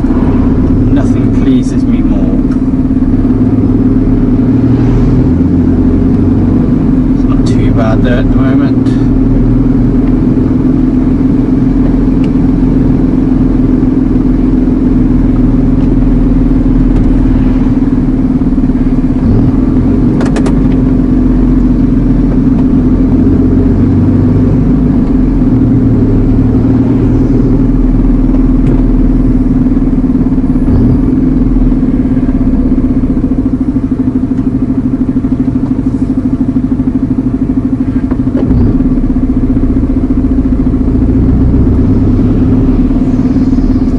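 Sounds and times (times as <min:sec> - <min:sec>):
lorry diesel engine drone: 0:00.0 - 0:43.9.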